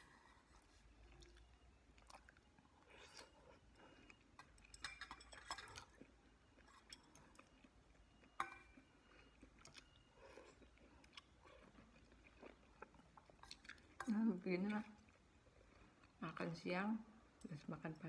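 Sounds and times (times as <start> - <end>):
chewing noodles: 0.0 - 16.2.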